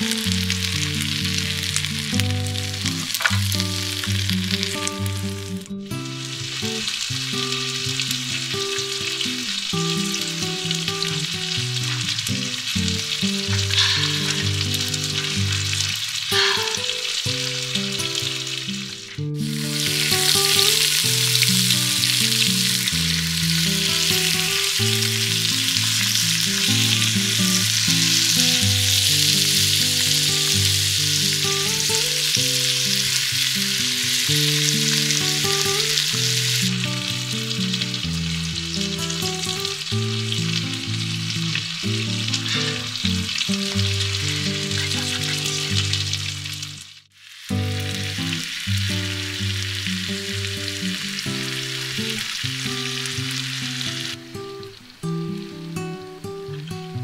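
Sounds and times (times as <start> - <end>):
food sizzling in pans: 0.0 - 57.0.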